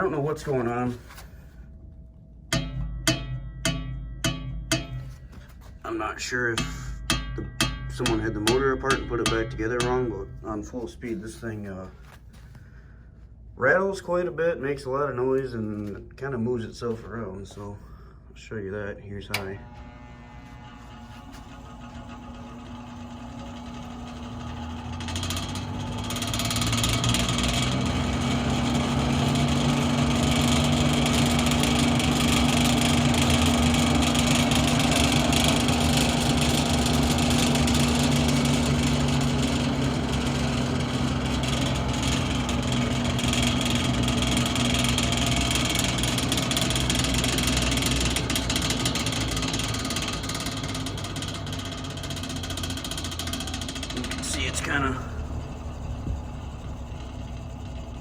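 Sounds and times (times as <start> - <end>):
electric fan motor humming: 0.0 - 1.7, 2.4 - 12.5, 19.2 - 58.0
loud fan rattle: 2.5 - 11.2, 19.8 - 58.0.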